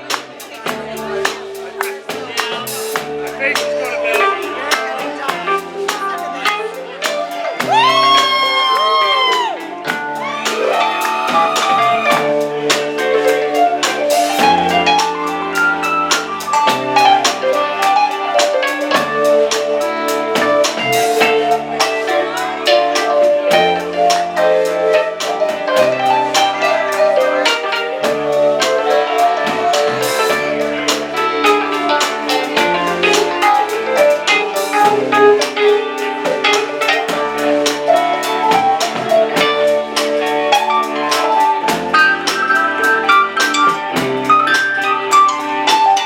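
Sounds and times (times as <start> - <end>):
drum kit beat: 0.0 - 46.0
live band music: 0.0 - 46.0.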